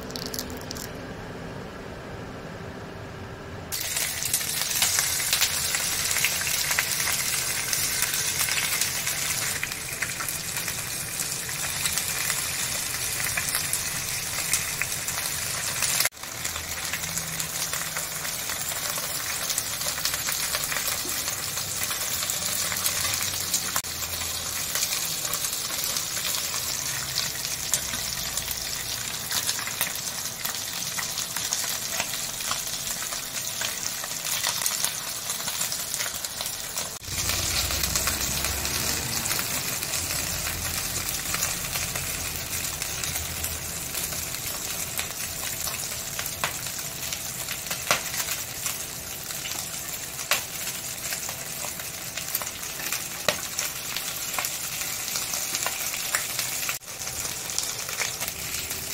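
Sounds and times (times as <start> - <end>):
food sizzling in a pan: 3.7 - 58.9.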